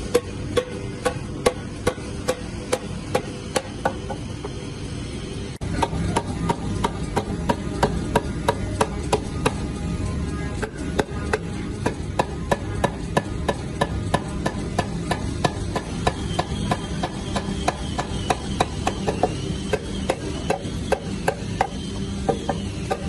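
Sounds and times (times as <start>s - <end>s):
steady low hum: 0.0s - 23.0s
hammer striking wood chisel: 0.1s - 4.2s, 5.8s - 9.6s, 11.0s - 23.0s.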